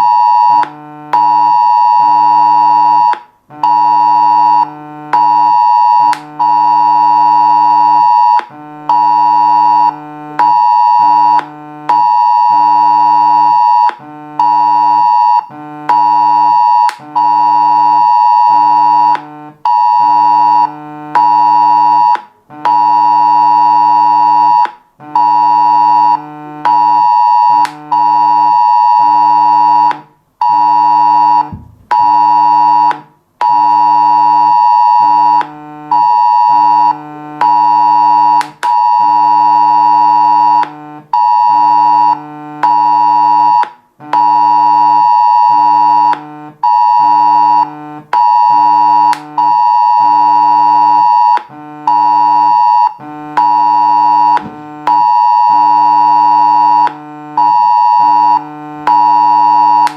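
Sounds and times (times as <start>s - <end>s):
phone emergency alert tone: 0.0s - 40.6s, 41.2s - 59.9s.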